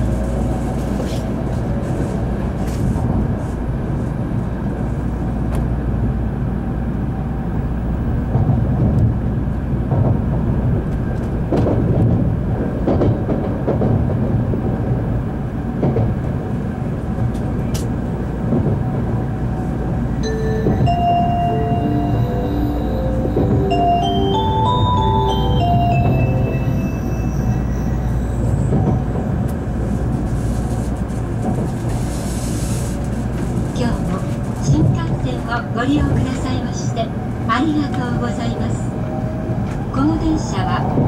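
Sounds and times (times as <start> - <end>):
train running rumble: 0.0 - 41.0.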